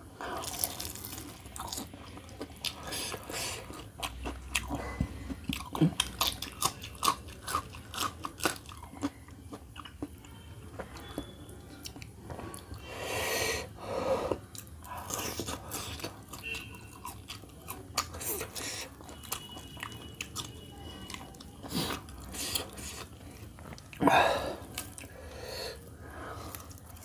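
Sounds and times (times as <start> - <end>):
chewing and crunching food: 0.2 - 12.8, 14.2 - 25.3, 26.1 - 27.0.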